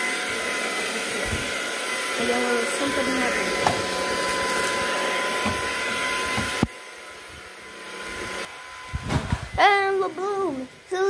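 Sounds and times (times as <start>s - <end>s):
appliance motor rushing air: 0.0s - 11.0s.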